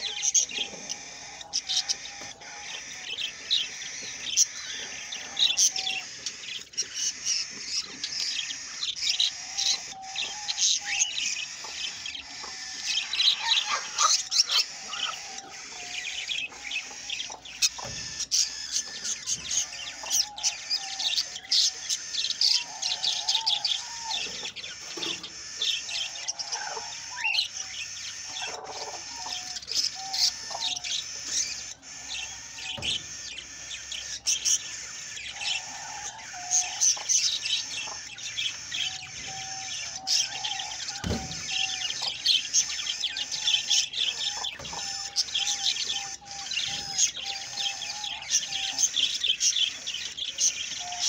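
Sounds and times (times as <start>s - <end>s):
budgerigars chattering: 0.0s - 51.0s.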